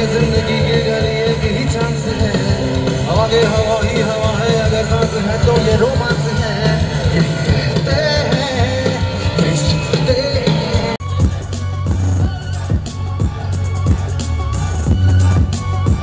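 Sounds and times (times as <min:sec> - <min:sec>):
music with heavy bass and drums: 0:00.0 - 0:16.0
rock song with singing: 0:00.0 - 0:16.0.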